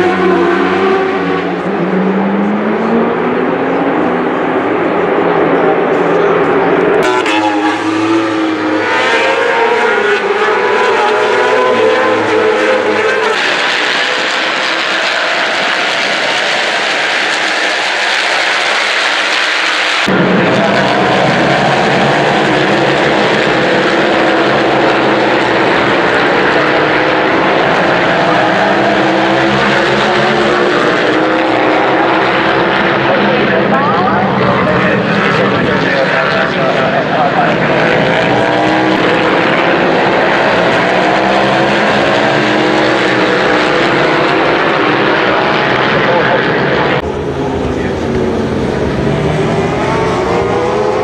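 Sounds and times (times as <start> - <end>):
racing motorcycle engines: 0.0 - 51.0.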